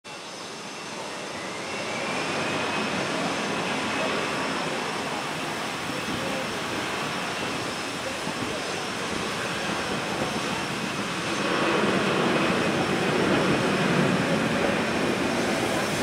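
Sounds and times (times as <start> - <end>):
faint high engine whine: 0.1 - 16.0
jet engines rushing: 0.1 - 16.0.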